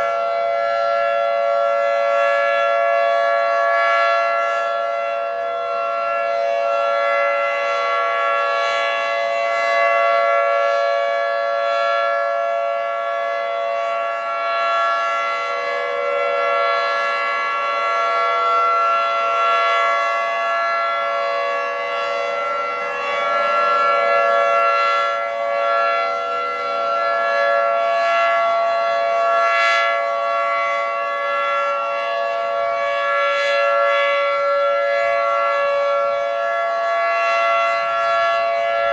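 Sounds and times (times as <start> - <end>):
dual-tone warning siren: 0.0 - 38.9.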